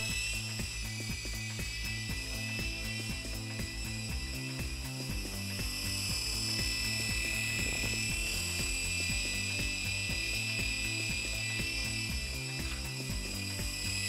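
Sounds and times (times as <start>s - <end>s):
background music: 0.0s - 14.0s
toy helicopter whining: 0.0s - 14.0s.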